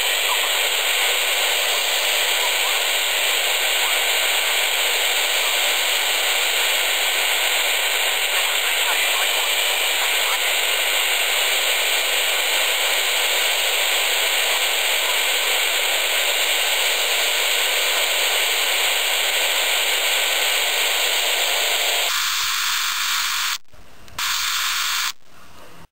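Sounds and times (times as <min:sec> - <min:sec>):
radio static hiss: 0:00.0 - 0:23.6, 0:24.2 - 0:25.9.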